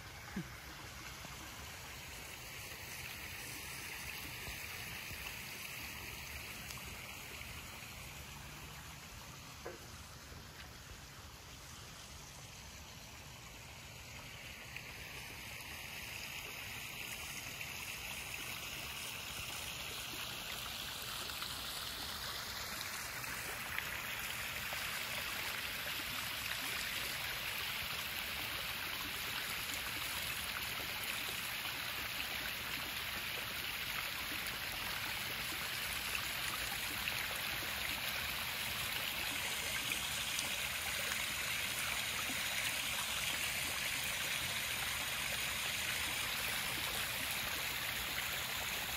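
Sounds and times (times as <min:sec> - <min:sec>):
waterfall splashing into pond: 0:00.0 - 0:48.9.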